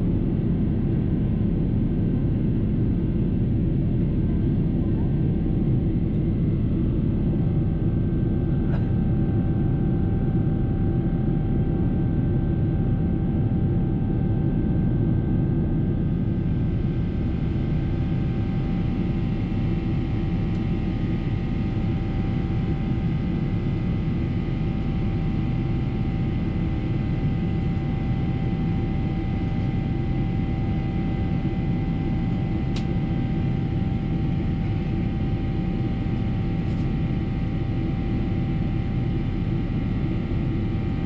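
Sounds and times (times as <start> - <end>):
faint steady whines: 0.0 - 41.0.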